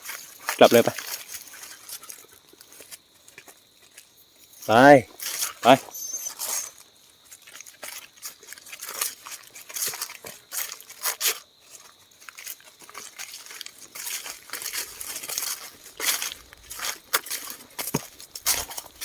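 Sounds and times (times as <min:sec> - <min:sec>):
footsteps crunching dry leaves: 0:00.0 - 0:19.0.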